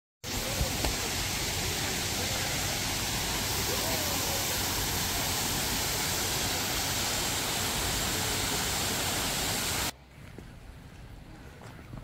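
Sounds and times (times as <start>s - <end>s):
waterfall rushing: 0.2s - 9.9s.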